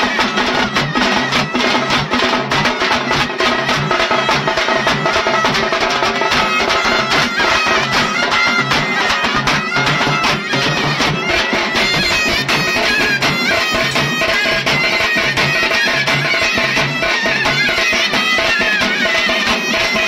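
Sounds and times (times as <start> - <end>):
fast dense drumming: 0.0 - 20.0
reedy wind instrument melody: 0.0 - 20.0.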